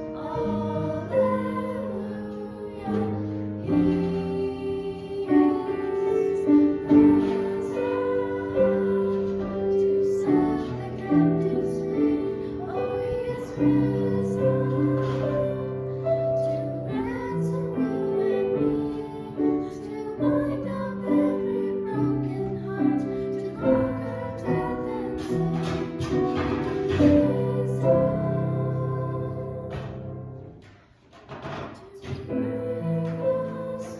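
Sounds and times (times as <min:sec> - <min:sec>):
voices singing sacred song: 0:00.0 - 0:30.5, 0:31.9 - 0:33.9
piano accompaniment: 0:00.0 - 0:33.9.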